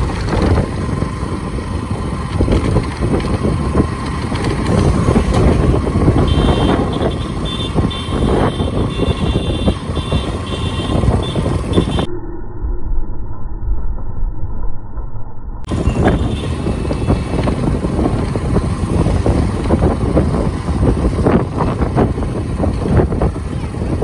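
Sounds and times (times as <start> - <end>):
motorcycle engine and road noise: 0.0 - 12.1, 15.6 - 24.0
wind buffeting microphone: 0.0 - 12.1, 15.6 - 24.0
dull street noise: 0.0 - 24.0.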